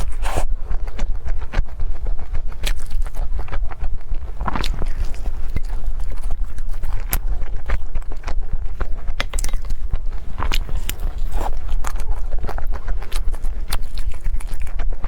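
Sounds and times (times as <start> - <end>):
chewing and biting food: 0.0 - 15.0.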